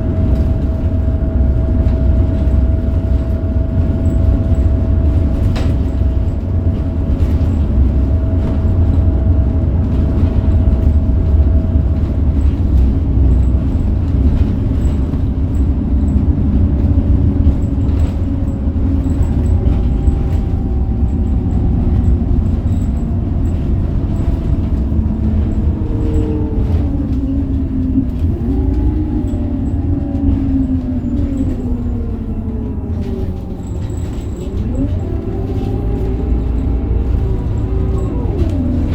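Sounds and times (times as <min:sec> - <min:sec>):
bus engine low rumble: 0:00.0 - 0:38.9
gearbox whine: 0:00.0 - 0:38.9.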